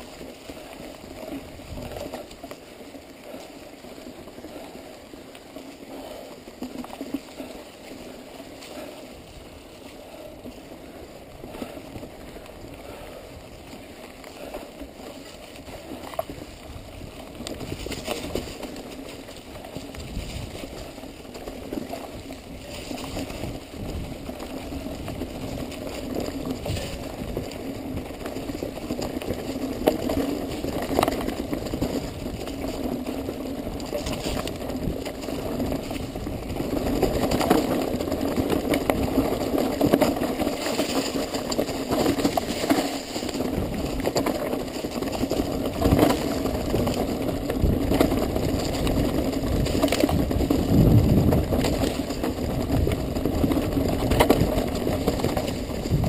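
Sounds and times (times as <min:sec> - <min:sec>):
bike knocking and rattling: 0:00.0 - 0:56.0
tyre and wind noise: 0:00.0 - 0:56.0.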